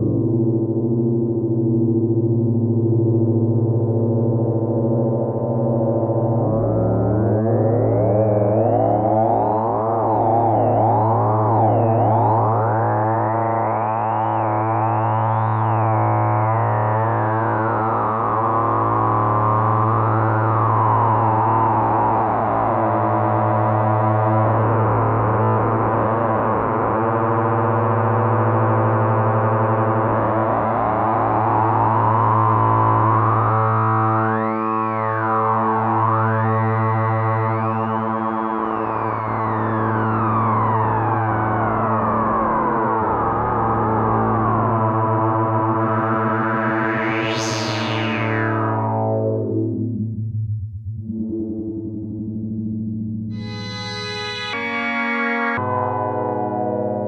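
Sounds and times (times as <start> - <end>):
synthesizer drone with filter sweeps: 0.0 - 57.0.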